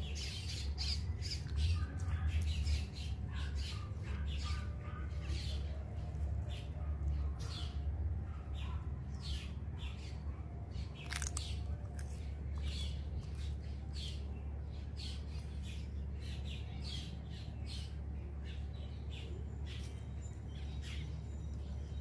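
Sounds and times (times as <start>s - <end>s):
low steady rumble: 0.0s - 22.0s
small birds chirping: 0.0s - 22.0s.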